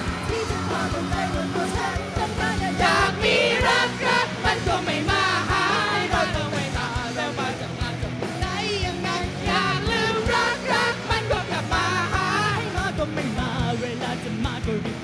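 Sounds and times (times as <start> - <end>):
people singing into microphones: 0.0 - 14.4
live rock band playing: 0.0 - 15.0
steady drum beat: 0.0 - 15.0.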